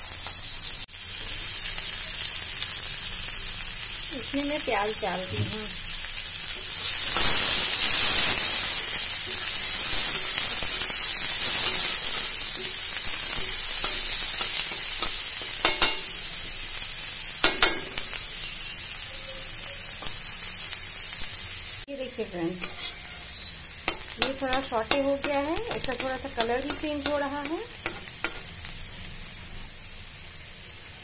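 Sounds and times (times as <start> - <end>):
vegetables sizzling in hot oil: 0.0 - 31.0.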